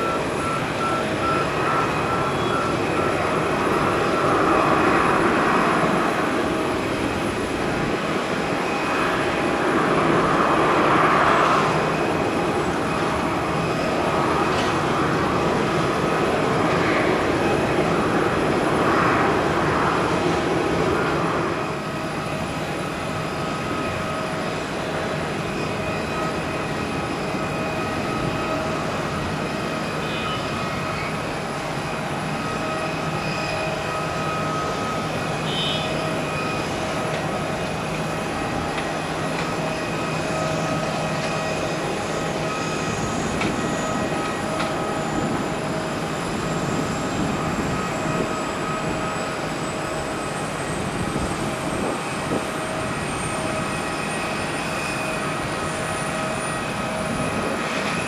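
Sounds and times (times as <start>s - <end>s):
jet engines rushing and whining: 0.0s - 58.0s.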